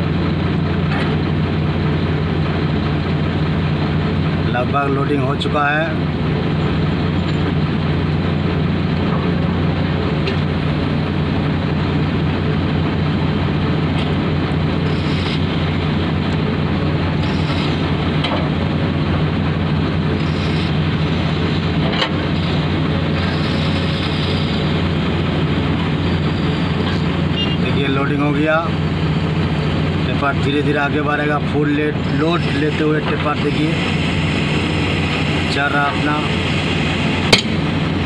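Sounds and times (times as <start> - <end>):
heavy diesel engines droning: 0.0 - 38.0.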